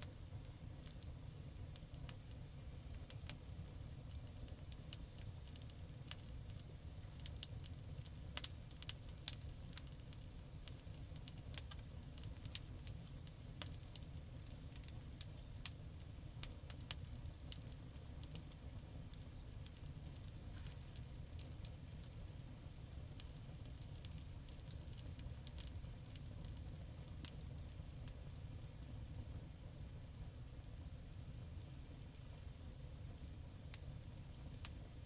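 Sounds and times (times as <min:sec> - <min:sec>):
steady low rumble: 0:00.0 - 0:04.9, 0:06.6 - 0:35.0
campfire crackling and popping: 0:00.0 - 0:35.0.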